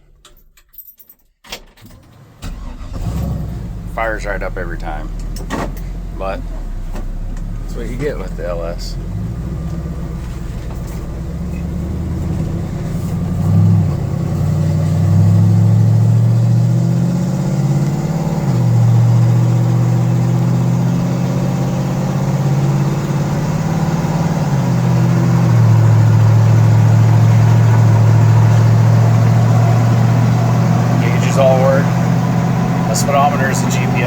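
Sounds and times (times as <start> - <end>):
truck engine accelerating: 2.4 - 34.0.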